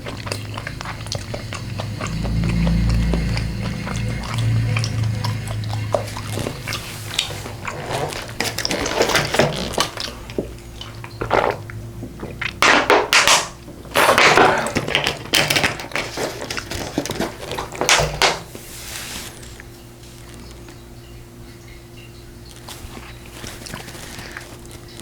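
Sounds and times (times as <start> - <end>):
wet chewing and smacking: 0.0 - 25.0.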